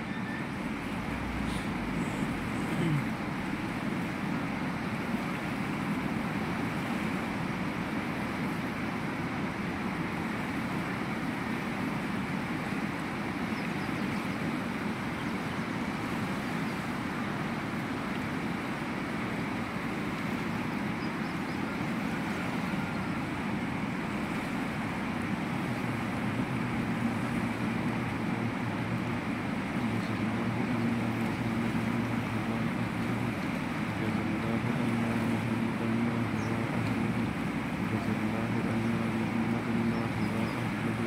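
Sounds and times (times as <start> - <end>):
fast mountain river rushing: 0.0 - 41.0.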